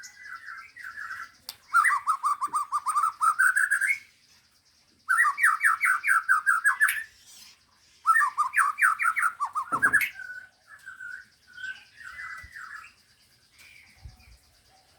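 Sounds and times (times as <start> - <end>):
songbird singing: 0.0 - 14.9.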